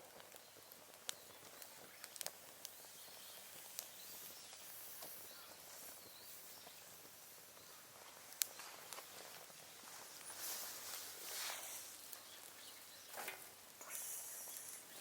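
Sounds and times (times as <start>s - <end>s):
small wood fire crackling: 0.0s - 15.0s
steady hiss: 0.0s - 15.0s.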